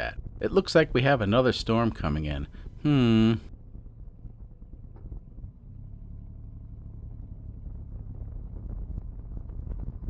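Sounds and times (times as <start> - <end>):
diesel engine rumble: 0.0 - 10.0.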